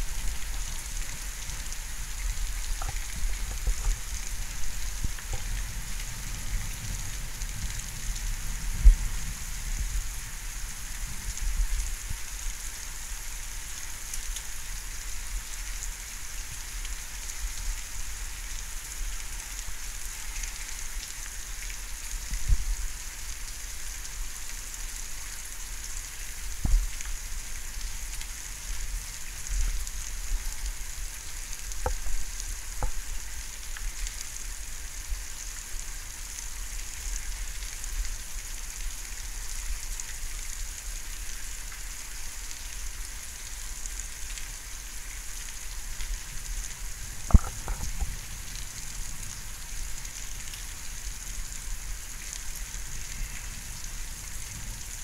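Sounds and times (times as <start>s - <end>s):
rain hissing: 0.0s - 55.0s.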